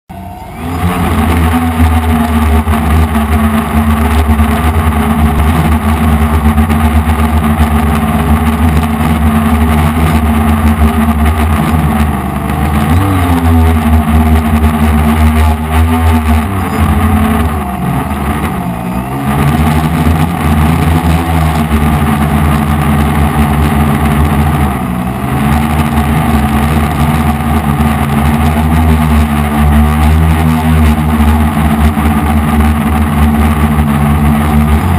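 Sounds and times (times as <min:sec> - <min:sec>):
quadcopter motors buzzing: 0:00.1 - 0:34.9.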